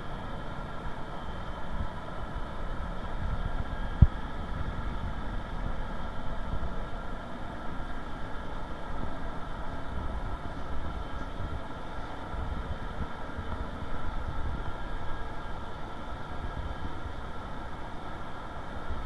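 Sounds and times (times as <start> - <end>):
ventilation fans humming: 0.0 - 19.0.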